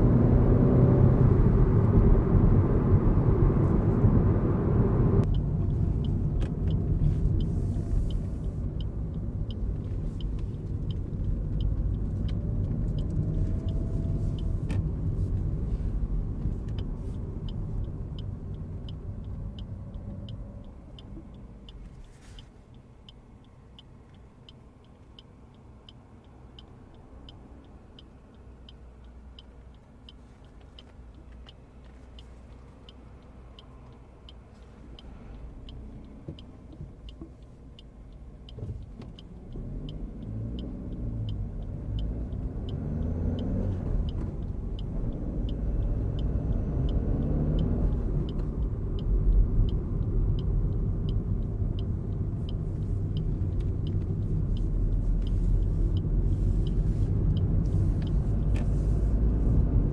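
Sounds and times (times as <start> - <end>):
car engine accelerating: 0.0 - 22.1, 30.8 - 59.9
road noise: 0.0 - 59.9
turn signal ticking: 0.1 - 59.9.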